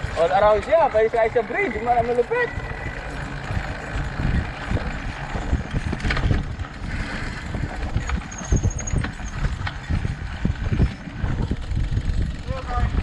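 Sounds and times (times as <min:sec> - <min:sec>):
bike knocking and rattling: 0:00.0 - 0:13.0
bike tyres rumbling on dirt trail: 0:00.0 - 0:13.0.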